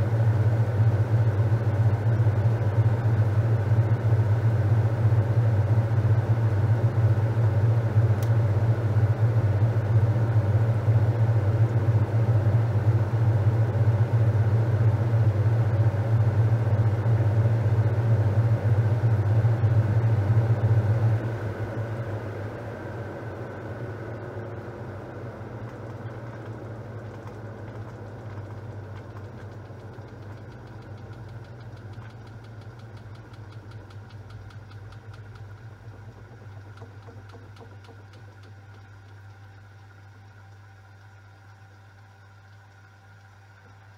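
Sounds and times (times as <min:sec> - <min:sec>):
washing machine humming and churning: 0:00.0 - 0:43.9.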